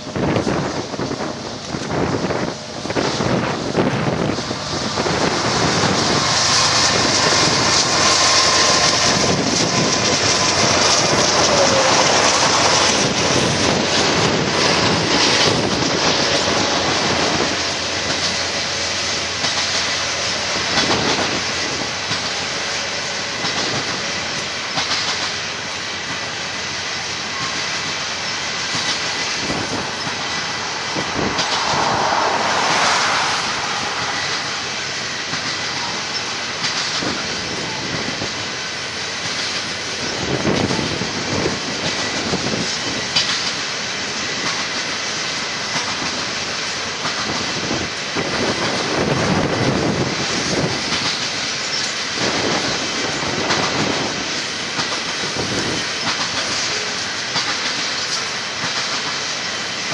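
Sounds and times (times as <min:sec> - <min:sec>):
diesel locomotives passing: 0:00.0 - 0:59.9
train wheels clicking over rail joints: 0:00.0 - 0:59.9.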